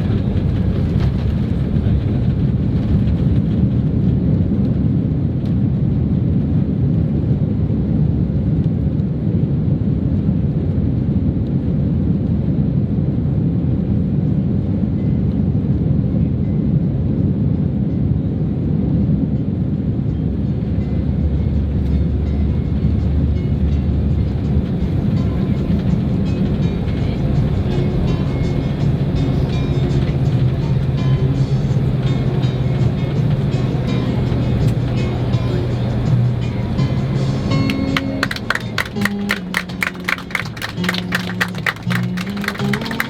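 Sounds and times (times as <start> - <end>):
airliner cabin rumble: 0.0 - 43.0.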